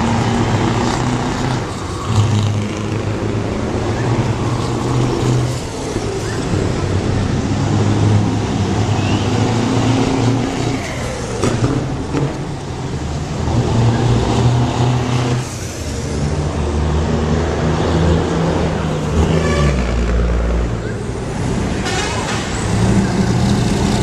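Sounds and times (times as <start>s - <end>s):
heavy trucks driving past: 0.0s - 24.0s.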